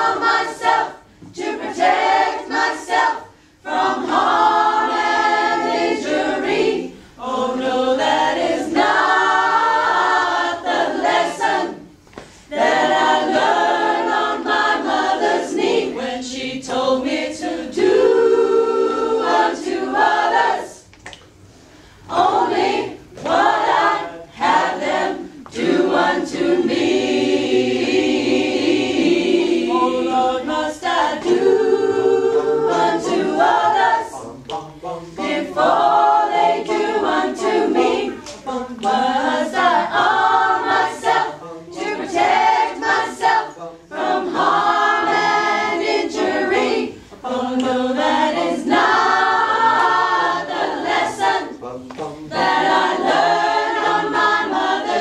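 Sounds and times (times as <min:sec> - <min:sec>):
mixed choir singing a cappella: 0:00.0 - 0:20.9, 0:21.5 - 0:55.0.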